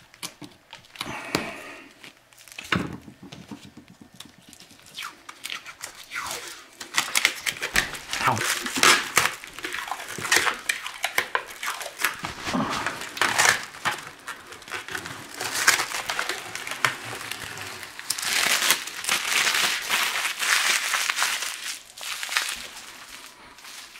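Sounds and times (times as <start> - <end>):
hands crumpling crackly plastic sheet: 0.1 - 23.9.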